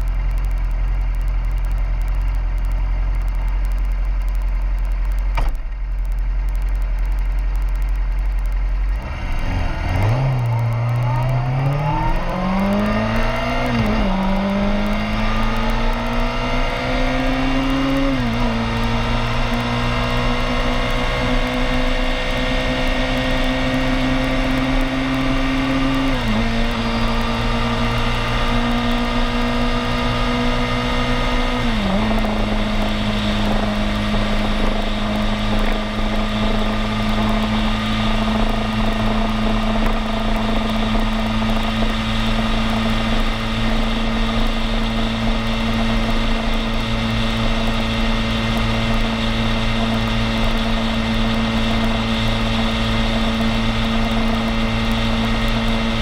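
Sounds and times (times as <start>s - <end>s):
vehicle engine accelerating: 0.0s - 56.0s
wind and road noise: 0.0s - 56.0s.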